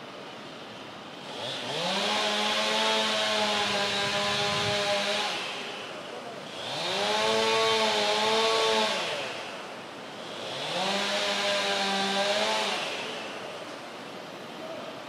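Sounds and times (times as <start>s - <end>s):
chainsaw revving: 1.1s - 13.6s.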